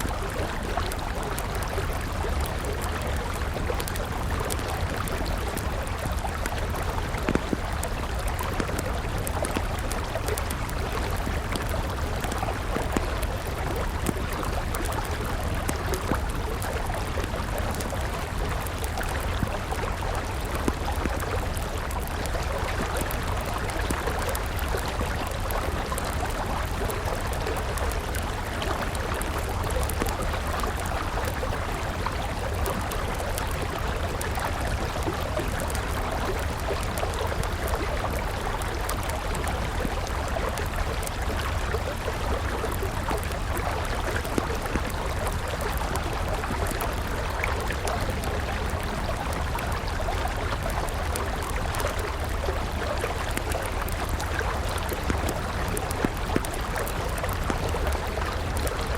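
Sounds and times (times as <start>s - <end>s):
campfire crackling: 0.0s - 58.9s
river water flowing: 0.0s - 58.9s.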